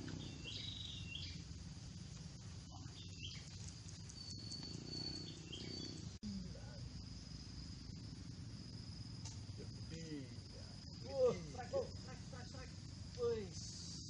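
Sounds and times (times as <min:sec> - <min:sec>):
insect drone: 0:00.0 - 0:14.0
low background rumble: 0:00.0 - 0:14.0.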